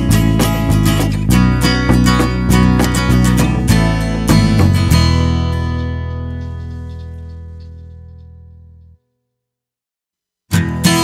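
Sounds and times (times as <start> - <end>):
folk guitar music: 0.0 - 9.0, 10.5 - 11.0.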